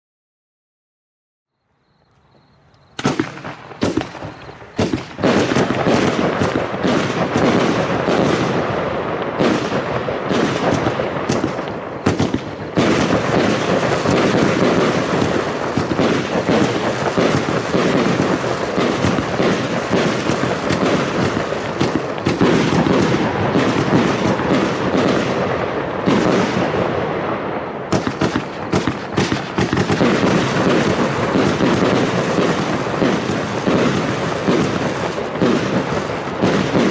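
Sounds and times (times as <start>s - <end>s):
fireworks bangs and crackling: 2.0s - 36.9s.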